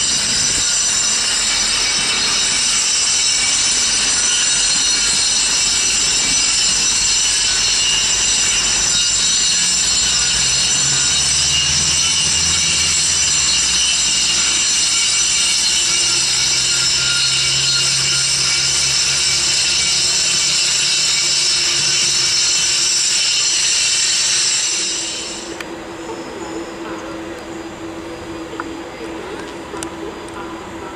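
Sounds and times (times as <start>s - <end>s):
power tool cutting with whine: 0.0s - 25.4s
low train rumble: 0.0s - 30.9s.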